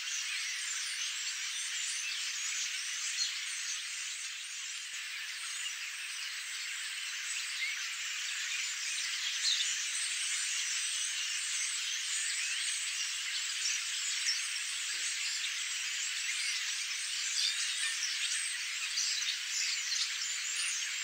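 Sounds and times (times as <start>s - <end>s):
flock of starlings chattering: 0.0s - 21.0s.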